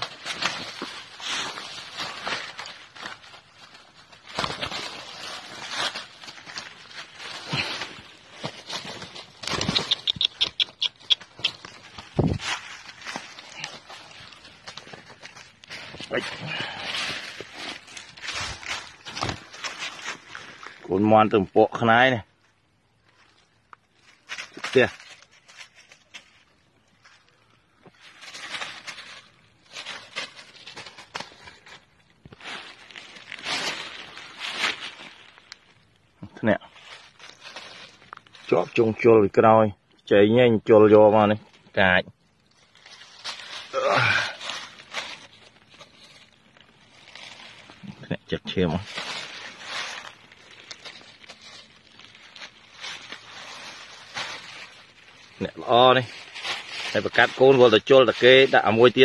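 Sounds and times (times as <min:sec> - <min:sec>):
dry leaves rustling and crackling: 0:00.0 - 0:59.0.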